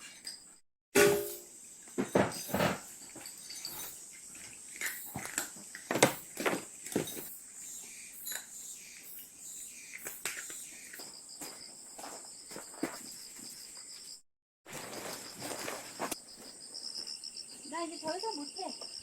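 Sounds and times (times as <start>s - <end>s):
pulsing insect chirp: 1.4s - 14.2s, 14.8s - 19.0s
crickets chirring: 1.4s - 19.0s.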